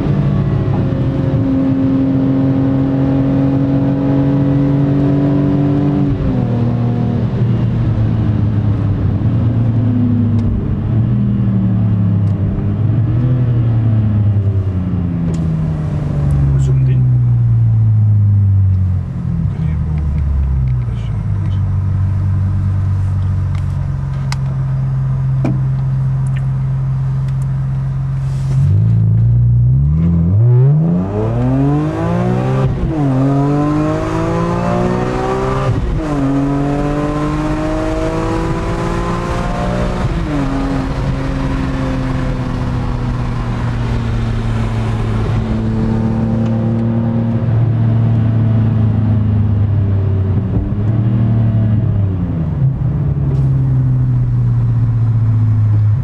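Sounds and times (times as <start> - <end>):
car engine revving through gears: 0.0 - 22.0, 28.1 - 56.0.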